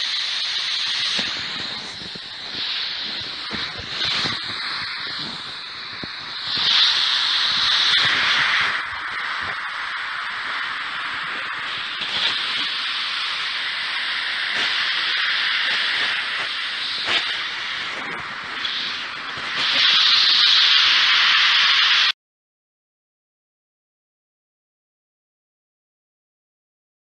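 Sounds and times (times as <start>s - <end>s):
radio static hiss: 0.0s - 22.2s.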